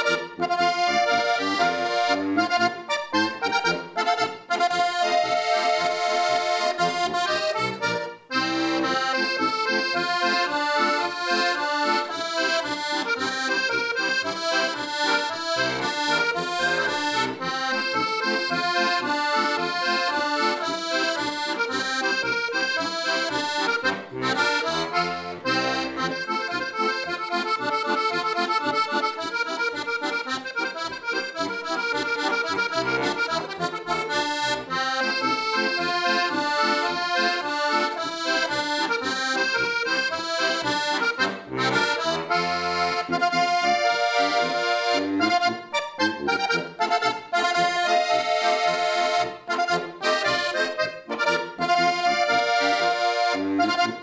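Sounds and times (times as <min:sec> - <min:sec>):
button accordion folk tune: 0:00.0 - 0:54.0.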